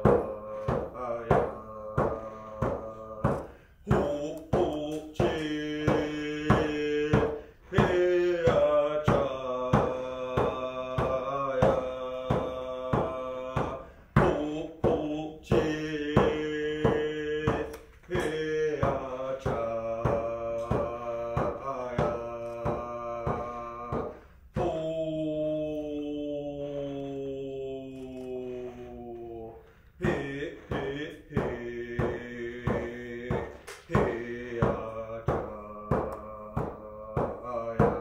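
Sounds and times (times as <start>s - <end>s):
man singing: 0.0s - 38.0s.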